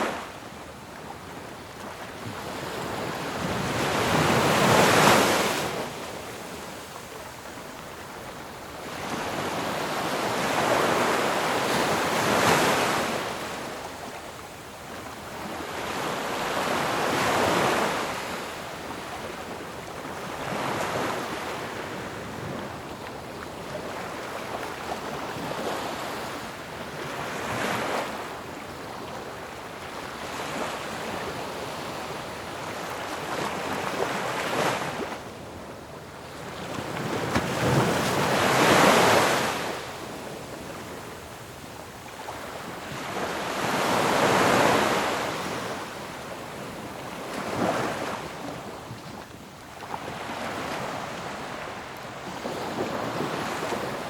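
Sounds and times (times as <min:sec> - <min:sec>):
ocean waves crashing on shore: 0:00.0 - 0:54.0.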